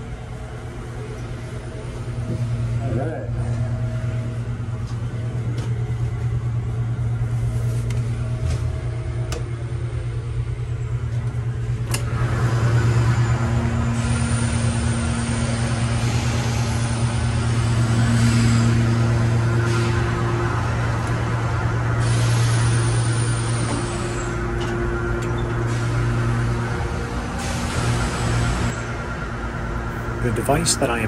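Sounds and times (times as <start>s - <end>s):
industrial machinery drone: 0.0s - 31.0s.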